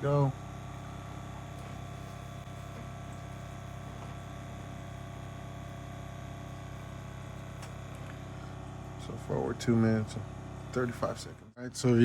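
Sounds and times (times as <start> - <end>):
ball pump motor humming: 0.0 - 12.0.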